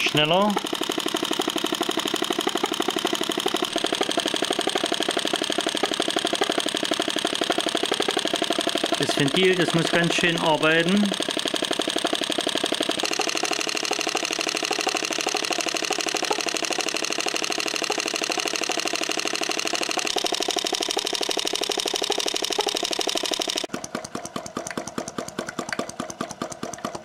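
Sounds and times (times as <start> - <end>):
model engine valve clacking: 0.0 - 27.0.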